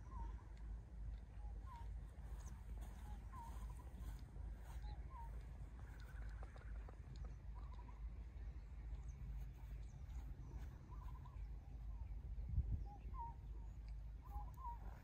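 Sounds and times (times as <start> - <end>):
birds chirping faintly: 0.0 - 15.0
steady low rumble: 0.0 - 15.0.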